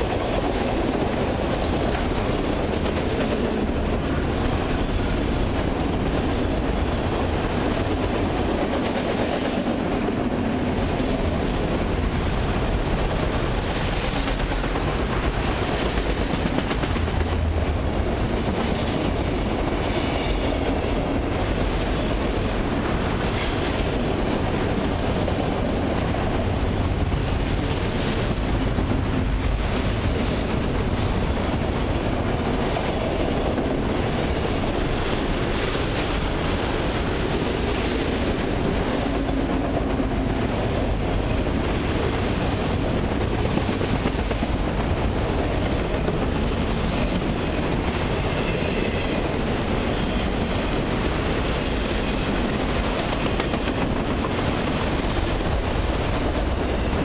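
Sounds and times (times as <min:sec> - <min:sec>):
steel wheels on rails: 0:00.0 - 0:57.0.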